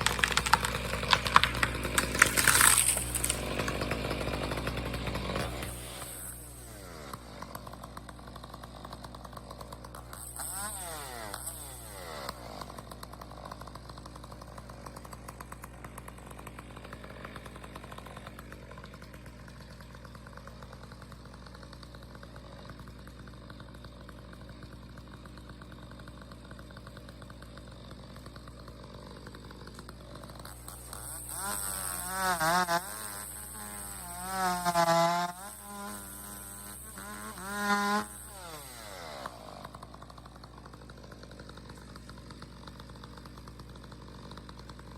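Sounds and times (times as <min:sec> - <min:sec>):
chainsaw idling and revving: 0:00.0 - 0:44.9.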